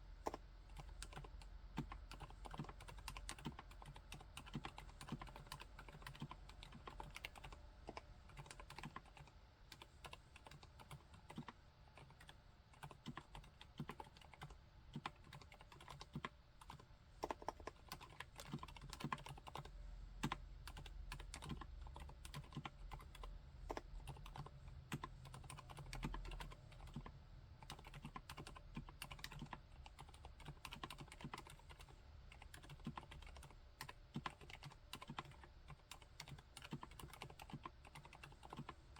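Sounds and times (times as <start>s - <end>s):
soft mechanical keyboard typing: 0.0s - 38.9s.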